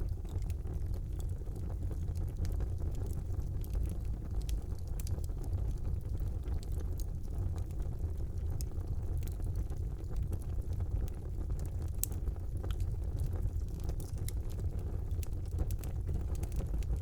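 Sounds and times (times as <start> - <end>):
fire crackles and pops: 0.0 - 17.0
fire rumbling: 0.0 - 17.0.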